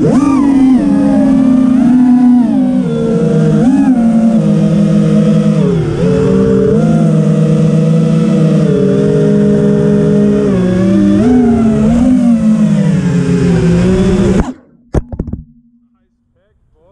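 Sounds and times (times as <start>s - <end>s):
quadcopter motors whining: 0.0s - 14.7s.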